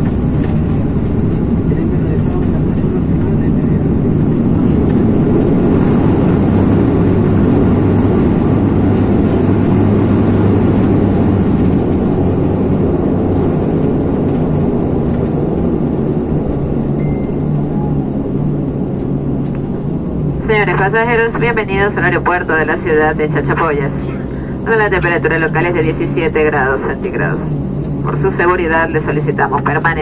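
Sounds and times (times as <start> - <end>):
aircraft cabin engine noise: 0.0 - 30.0.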